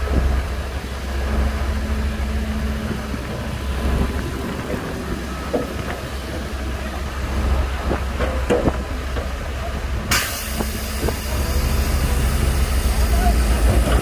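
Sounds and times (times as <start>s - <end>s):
bulldozer diesel engine rumbling: 0.0s - 14.0s.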